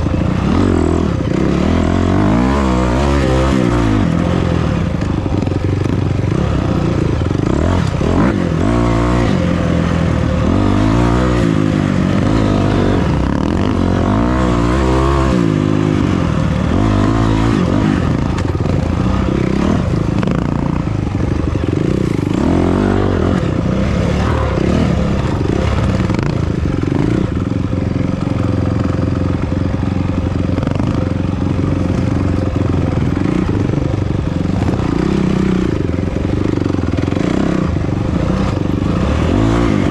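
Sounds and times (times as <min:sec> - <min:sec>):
off-road vehicle engine revving: 0:00.0 - 0:39.9
wind: 0:00.0 - 0:39.9.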